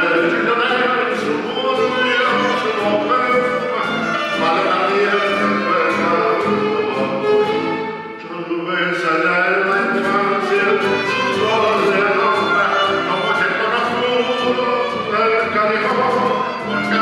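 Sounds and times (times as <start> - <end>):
acoustic guitar: 0.0 - 17.0
man singing: 0.0 - 17.0
violin: 0.0 - 17.0.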